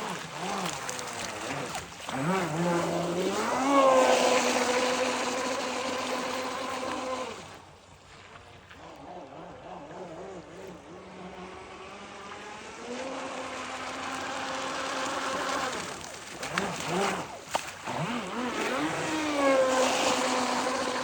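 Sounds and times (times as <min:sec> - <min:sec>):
speedboat motor whining: 0:00.0 - 0:07.9, 0:08.8 - 0:21.0.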